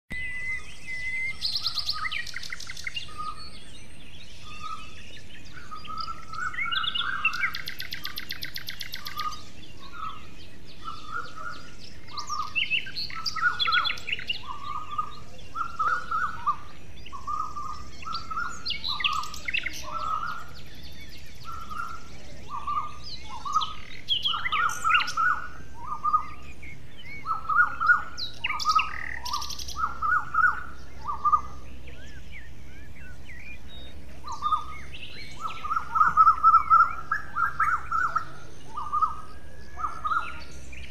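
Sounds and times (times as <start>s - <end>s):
buzzy bird trills: 0.1s - 40.9s
high bird chirps: 0.1s - 40.9s
steady background hiss: 0.2s - 40.9s.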